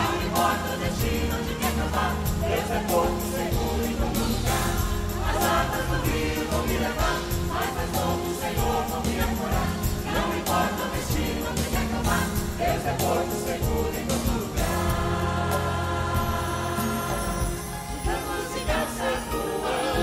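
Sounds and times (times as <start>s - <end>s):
choir singing: 0.0s - 20.0s
instrumental accompaniment: 0.0s - 20.0s
steady percussive beat: 0.0s - 20.0s.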